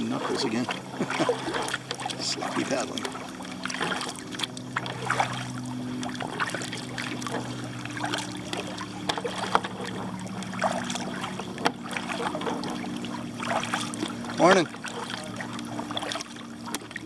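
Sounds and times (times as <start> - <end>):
boat motor humming: 0.0 - 17.0
paddle splashing in water: 0.0 - 17.0.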